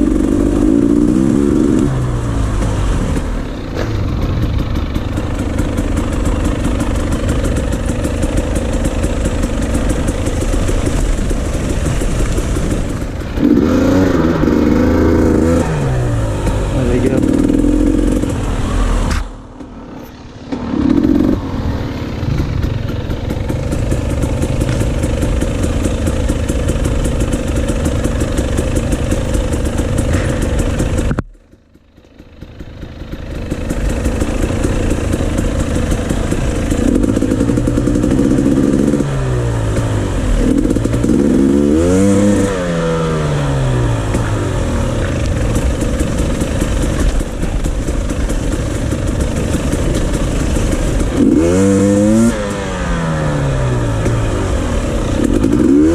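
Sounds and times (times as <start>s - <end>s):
dirt bikes revving past: 0.0s - 31.2s, 32.2s - 55.9s
dirt bike engine running: 0.0s - 55.9s.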